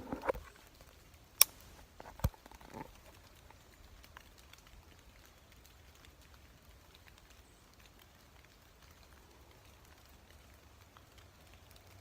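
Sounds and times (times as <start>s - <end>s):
light rain pattering on leaves: 0.0s - 12.0s.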